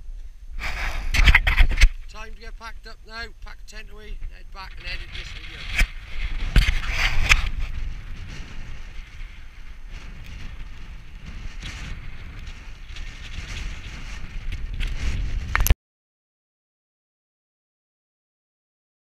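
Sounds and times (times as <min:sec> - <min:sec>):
wind buffeting microphone: 0:00.0 - 0:15.7.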